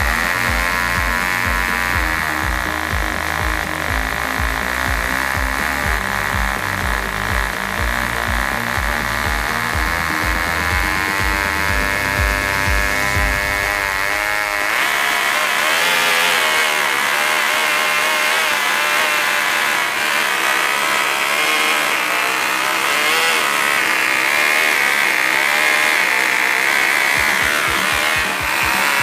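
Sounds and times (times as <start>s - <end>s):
model engines screaming: 0.0s - 29.0s.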